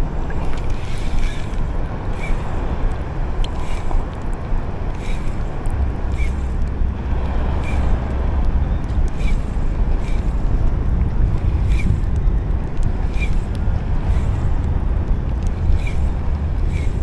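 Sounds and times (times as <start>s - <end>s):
wind buffeting microphone: 0.0s - 17.0s
faint light ticks: 0.2s - 17.0s.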